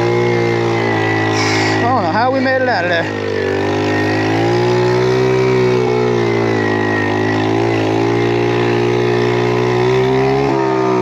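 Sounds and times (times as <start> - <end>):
small motorbike engine running: 0.0 - 11.0.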